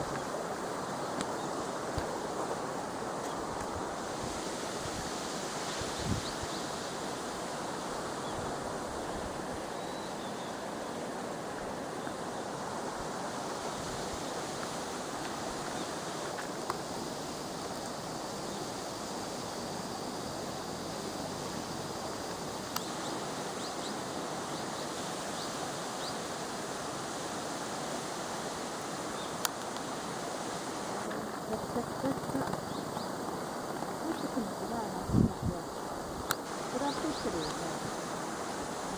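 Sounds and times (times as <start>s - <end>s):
waterfall rushing: 0.0s - 35.0s, 35.6s - 38.9s.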